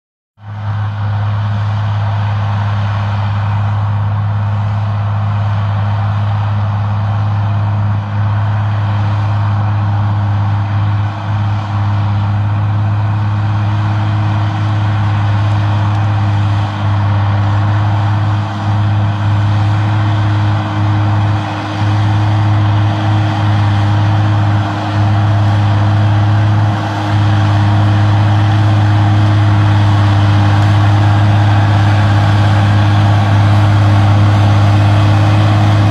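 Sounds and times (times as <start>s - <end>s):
tractor diesel engine droning: 0.4s - 35.9s.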